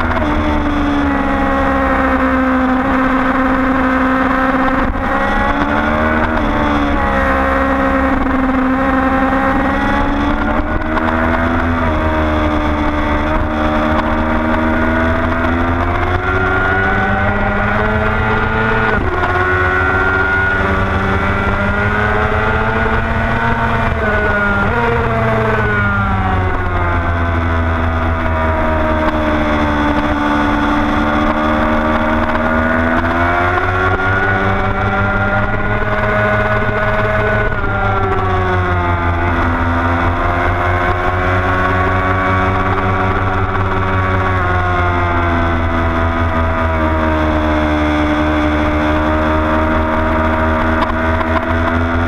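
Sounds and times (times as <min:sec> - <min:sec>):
motorcycle engine running hard: 0:00.0 - 0:52.0
wind rush on camera: 0:00.0 - 0:52.0.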